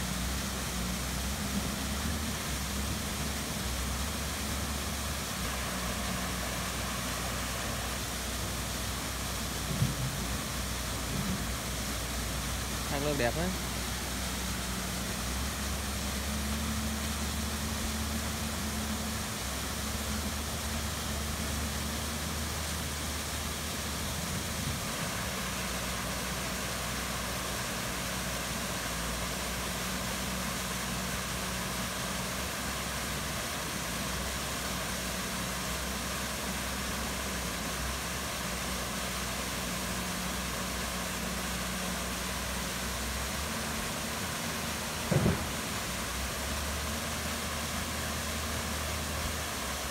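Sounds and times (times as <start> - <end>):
low steady hum: 0.0 - 49.9
waterfall rushing: 0.0 - 49.9.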